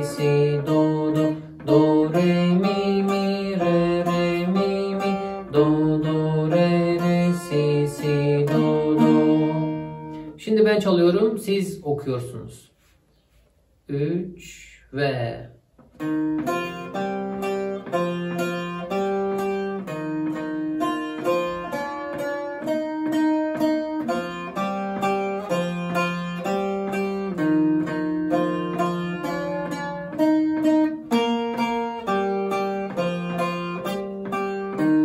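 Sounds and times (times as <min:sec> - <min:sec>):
plucked lute folk melody: 0:00.0 - 0:10.4, 0:15.8 - 0:35.0.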